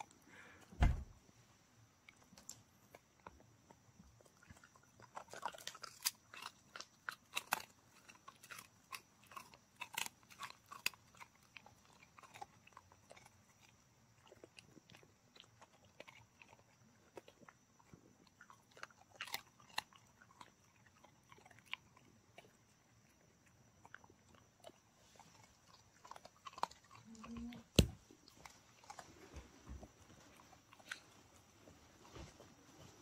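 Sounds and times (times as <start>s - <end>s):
dog chewing and crunching: 2.0s - 33.0s.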